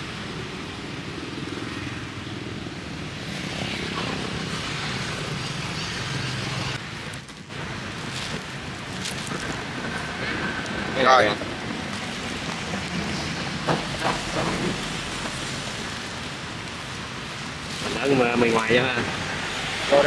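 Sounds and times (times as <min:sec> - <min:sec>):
street traffic engines humming: 0:00.0 - 0:20.0.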